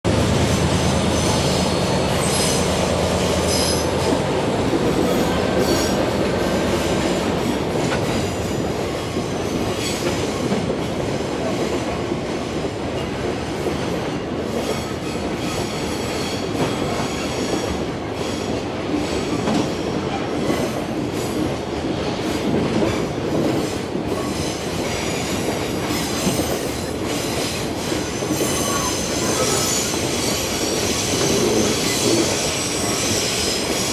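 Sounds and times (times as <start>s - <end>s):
diesel locomotive engine: 0.0s - 33.9s
train wheels squealing and clicking: 1.1s - 11.9s, 13.0s - 33.9s.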